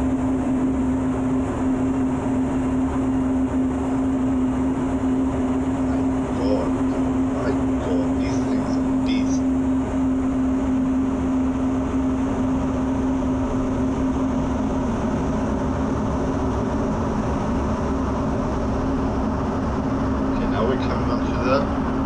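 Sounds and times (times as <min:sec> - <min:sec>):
jet engine roar: 0:00.0 - 0:22.0
steady low hum: 0:00.0 - 0:22.0.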